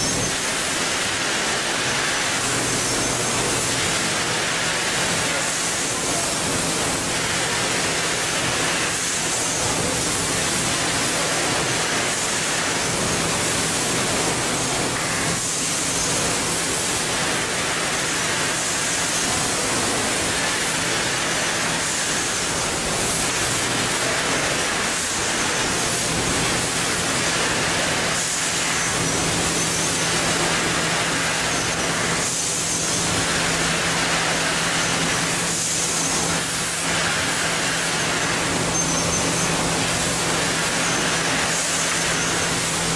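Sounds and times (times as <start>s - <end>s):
machinery hiss: 0.0s - 42.9s.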